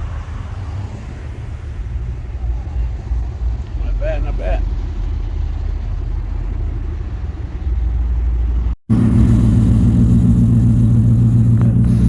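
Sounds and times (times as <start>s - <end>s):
car engine exhaust rumble: 0.0s - 12.0s.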